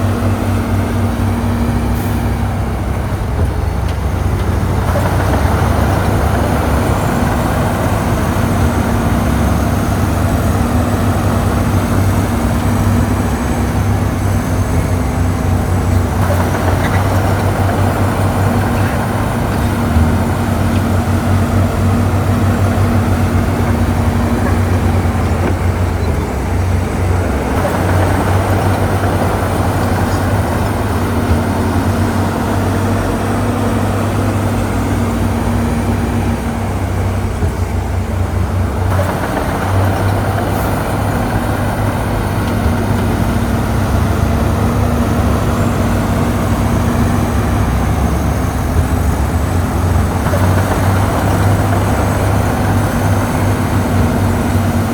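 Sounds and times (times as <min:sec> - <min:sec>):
bulldozer diesel engine droning: 0:00.0 - 0:54.9.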